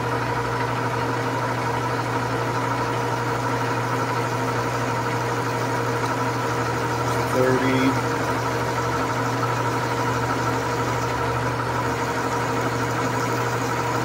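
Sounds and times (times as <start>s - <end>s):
metal lathe motor humming: 0.0s - 14.0s.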